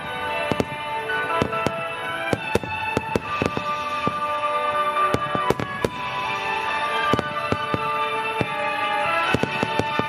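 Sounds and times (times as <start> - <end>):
firework shells bursting: 0.0 - 10.0
music with sustained notes: 0.0 - 10.0.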